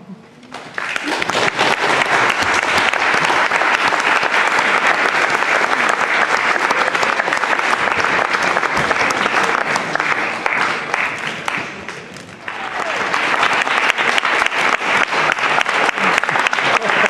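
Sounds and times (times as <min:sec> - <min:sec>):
audience applauding: 0:00.4 - 0:17.0.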